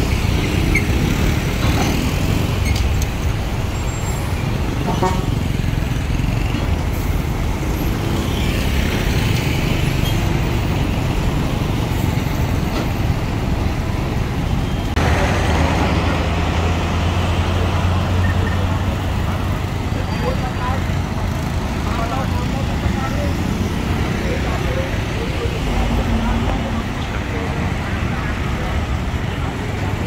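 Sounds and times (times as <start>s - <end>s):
heavy vehicle engines rumbling: 0.0s - 30.0s
road traffic noise: 0.0s - 30.0s.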